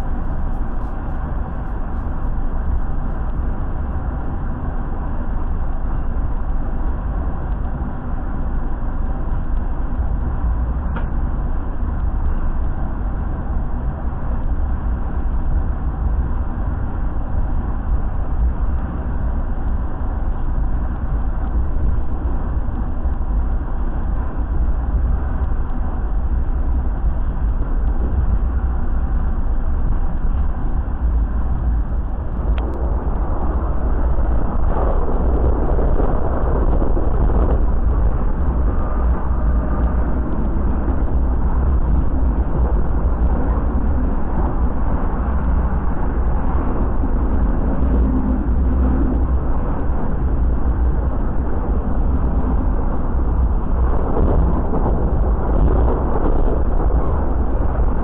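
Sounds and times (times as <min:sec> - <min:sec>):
train carriage rumbling in motion: 0:00.0 - 0:58.0.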